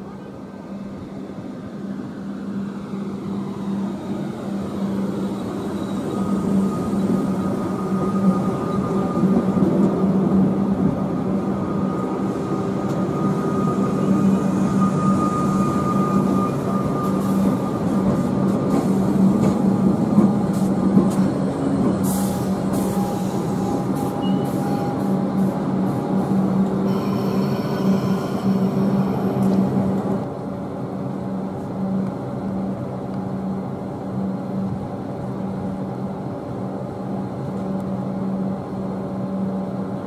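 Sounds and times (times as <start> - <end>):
electric train humming and whining: 0.0 - 40.0.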